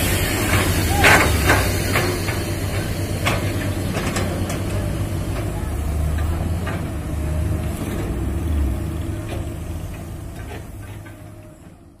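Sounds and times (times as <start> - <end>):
diesel engines rumbling: 0.0 - 12.0.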